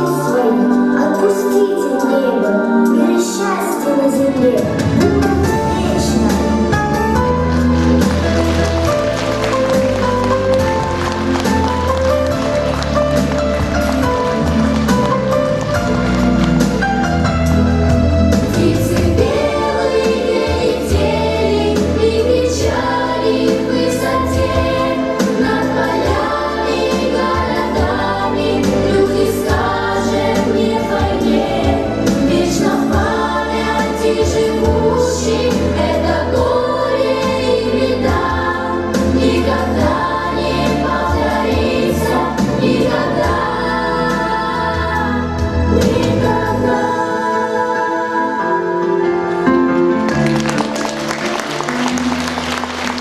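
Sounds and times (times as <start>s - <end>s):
choir singing: 0.0s - 16.9s, 17.9s - 50.3s
instrumental backing: 0.0s - 53.0s.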